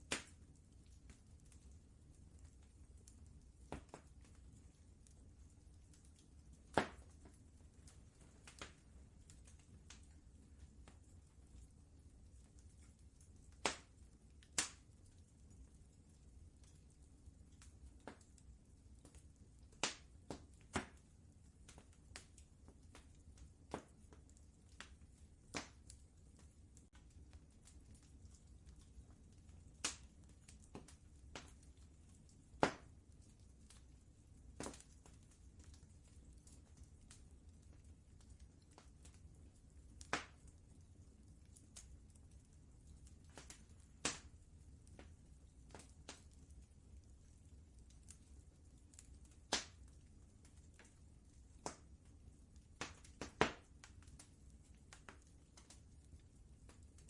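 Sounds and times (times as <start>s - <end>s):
low fire rumble: 0.0s - 57.0s
wood fire pops and snaps: 0.0s - 57.0s.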